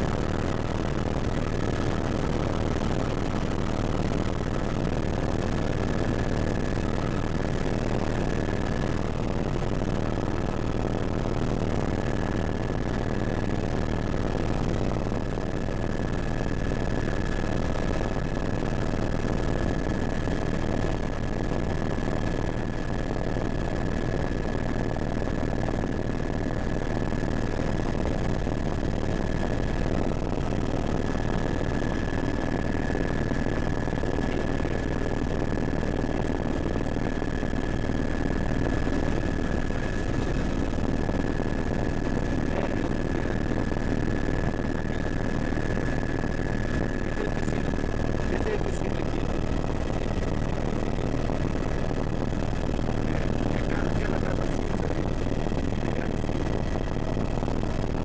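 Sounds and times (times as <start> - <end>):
helicopter running: 0.0 - 58.0.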